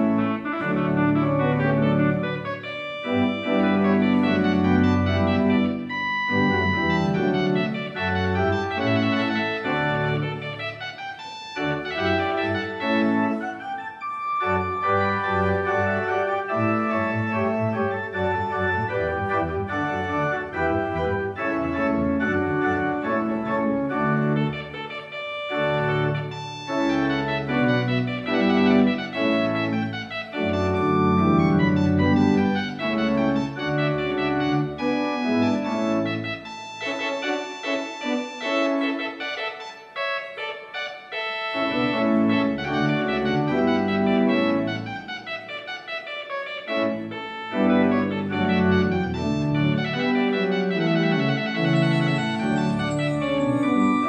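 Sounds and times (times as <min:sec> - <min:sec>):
church organ playing chords: 0:00.0 - 0:40.4, 0:41.5 - 0:54.0.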